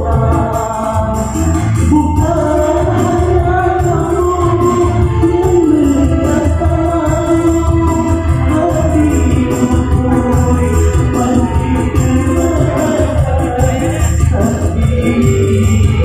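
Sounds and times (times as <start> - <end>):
electronic keyboard with beat: 0.0 - 16.0
man singing into a microphone: 0.0 - 16.0.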